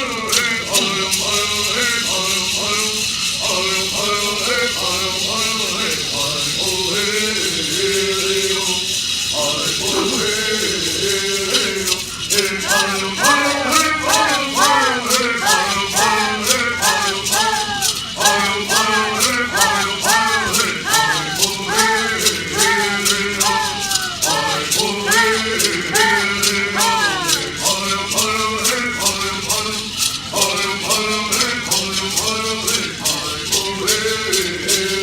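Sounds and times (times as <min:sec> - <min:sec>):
gourd rattles shaken: 0:00.0 - 0:35.0
group chanting in unison: 0:00.0 - 0:35.0.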